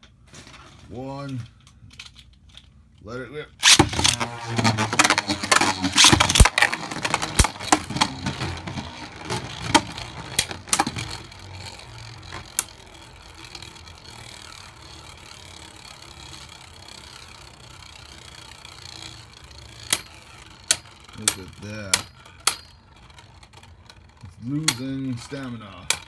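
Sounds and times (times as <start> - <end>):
spinning tops clacking: 3.6 - 26.0
spinning tops whirring: 3.6 - 26.0.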